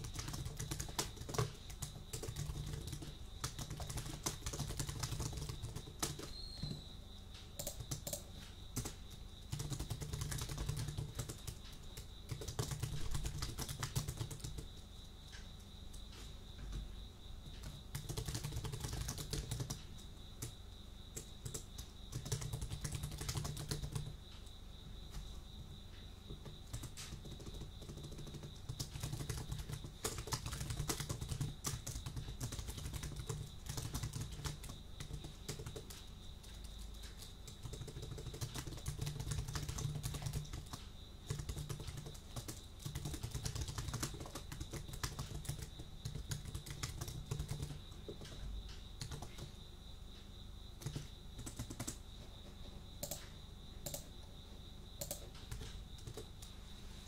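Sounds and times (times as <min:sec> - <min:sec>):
cricket trill: 0:00.0 - 0:57.0.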